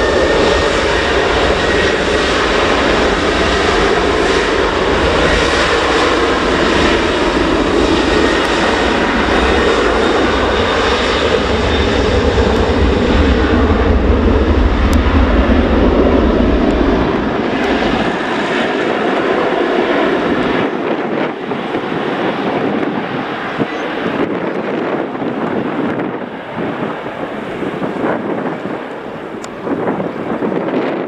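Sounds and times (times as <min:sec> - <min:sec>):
airliner engines rumbling: 0:00.0 - 0:31.0.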